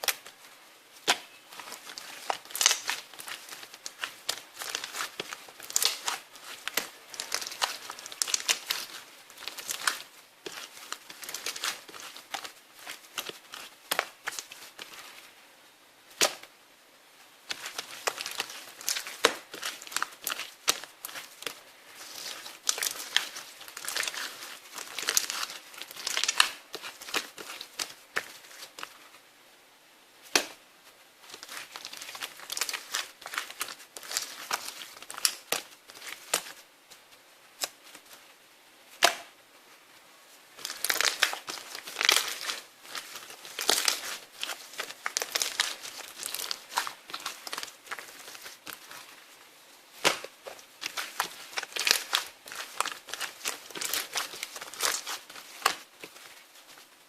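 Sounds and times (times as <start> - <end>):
crinkling and rustling: 0.0 - 15.4, 17.2 - 29.3, 30.2 - 57.0.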